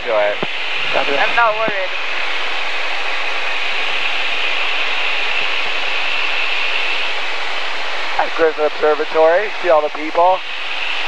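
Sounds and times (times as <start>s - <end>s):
light plane cabin noise: 0.0s - 11.0s.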